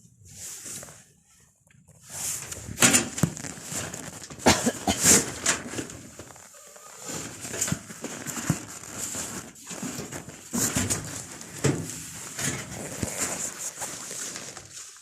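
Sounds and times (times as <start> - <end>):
material rustling and crinkling: 0.3 - 15.0.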